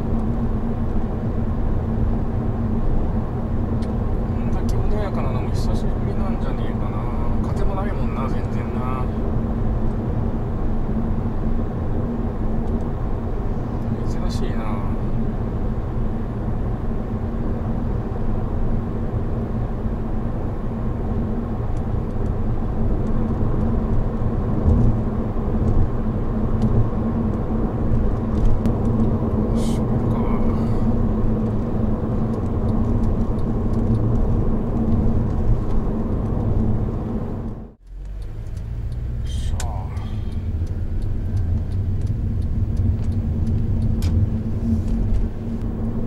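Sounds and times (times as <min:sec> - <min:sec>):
road and engine rumble: 0:00.0 - 0:46.0.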